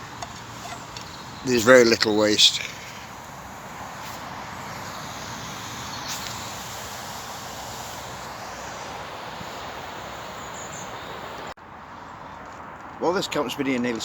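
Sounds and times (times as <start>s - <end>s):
rushing outdoor background hiss: 0.0s - 12.4s.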